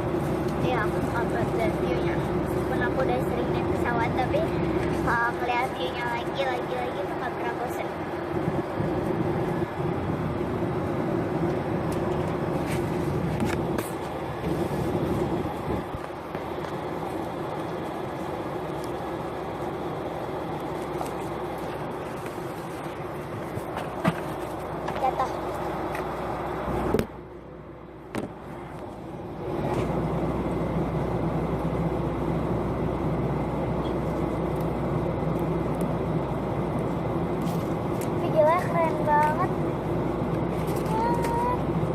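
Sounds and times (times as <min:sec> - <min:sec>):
airliner engine drone: 0:00.0 - 0:41.9
constant low hum: 0:00.0 - 0:41.9.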